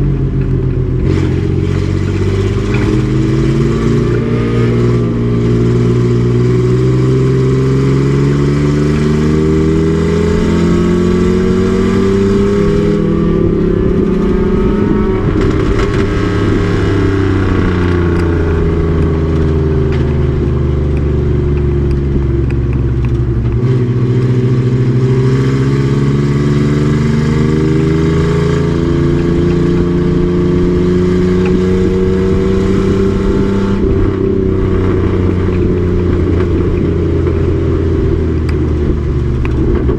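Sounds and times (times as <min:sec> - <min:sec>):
race truck engine accelerating: 0:00.0 - 0:39.9.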